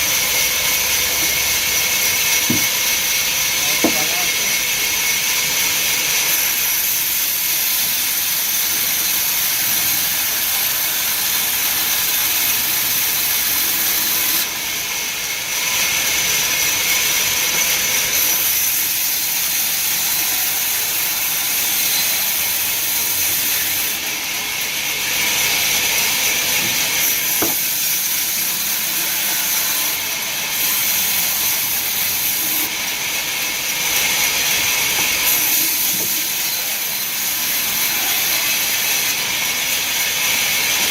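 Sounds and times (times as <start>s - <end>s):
wood-cutting machinery hissing: 0.0s - 40.9s.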